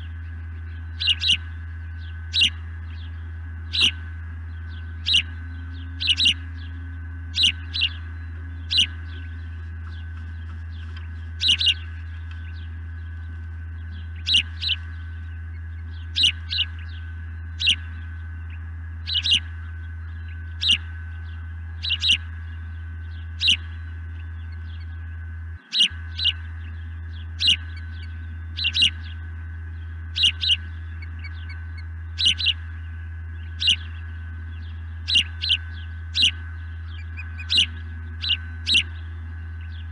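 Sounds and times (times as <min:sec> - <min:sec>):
osprey whistled chirps: 0:00.0 - 0:39.9
steady low hum: 0:00.0 - 0:39.9.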